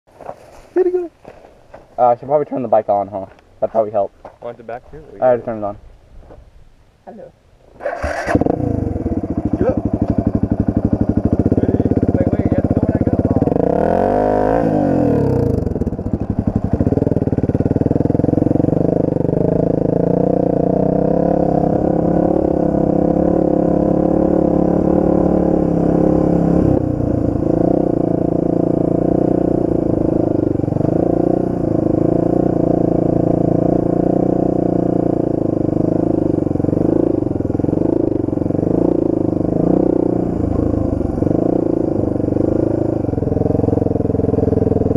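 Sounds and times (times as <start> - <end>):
motorcycle engine revving: 7.8 - 44.9.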